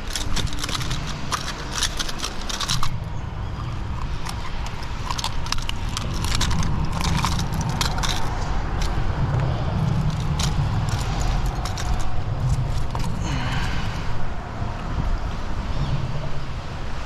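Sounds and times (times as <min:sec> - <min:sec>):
metal pliers and hooks clinking: 0:00.0 - 0:14.3
steady low rumble: 0:00.0 - 0:17.0.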